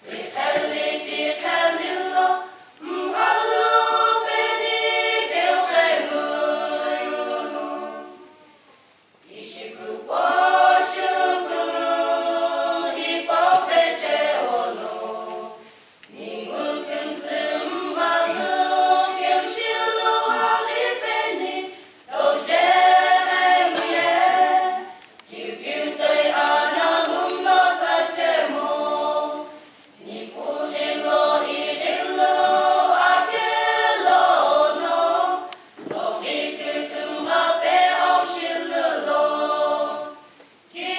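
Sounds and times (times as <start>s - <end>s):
women's choir singing: 0.0s - 8.4s, 9.2s - 40.9s.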